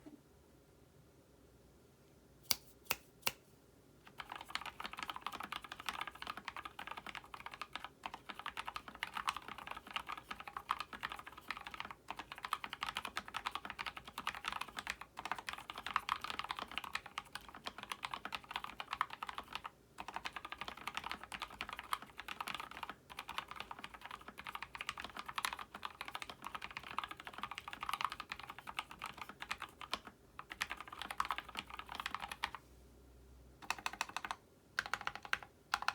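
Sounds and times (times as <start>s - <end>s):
typing on mechanical keyboard: 4.1s - 32.6s, 33.6s - 35.9s.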